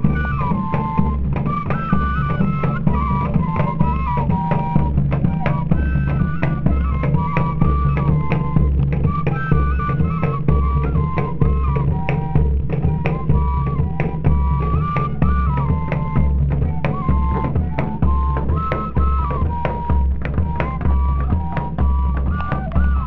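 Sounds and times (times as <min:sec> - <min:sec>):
drum beats and percussion: 0:00.0 - 0:23.0
fife melody: 0:00.0 - 0:23.0.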